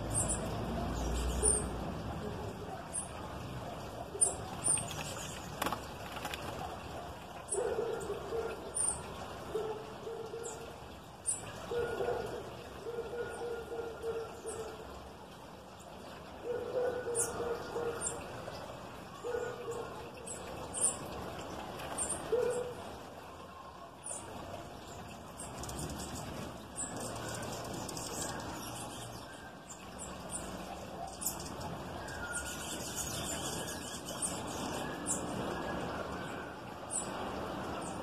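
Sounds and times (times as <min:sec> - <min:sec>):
small birds chirping: 0:00.0 - 0:14.8, 0:15.8 - 0:22.8, 0:23.6 - 0:36.2.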